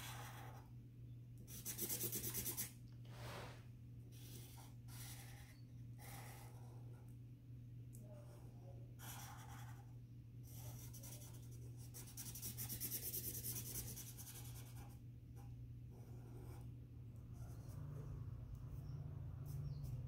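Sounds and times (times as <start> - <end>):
marker scratching on paper: 0.0 - 0.7, 1.5 - 7.0, 8.1 - 20.0.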